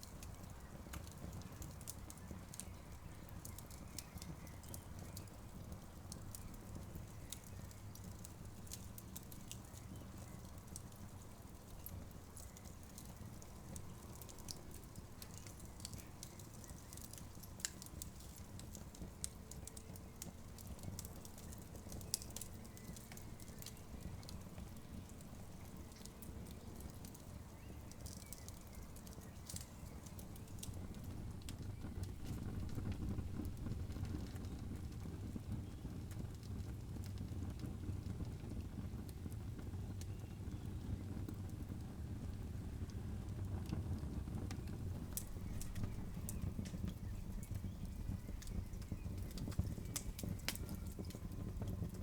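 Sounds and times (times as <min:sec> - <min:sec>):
campfire crackling and popping: 0:00.0 - 0:52.0.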